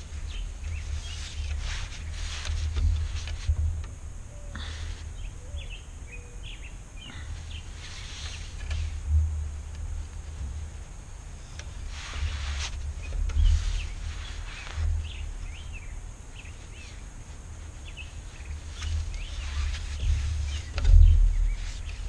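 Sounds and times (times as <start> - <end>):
small birds chirping: 0.0 - 3.4, 4.3 - 9.1, 11.4 - 22.0
cord rustling around wooden frame: 0.0 - 5.4, 7.3 - 22.0.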